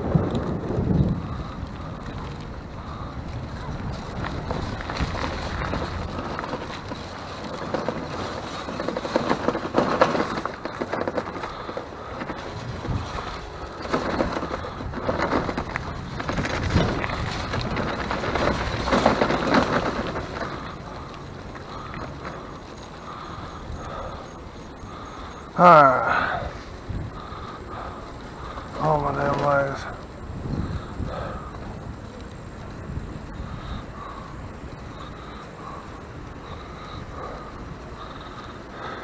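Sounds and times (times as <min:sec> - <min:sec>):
bicycle rattling and rumbling: 0:00.0 - 0:39.0.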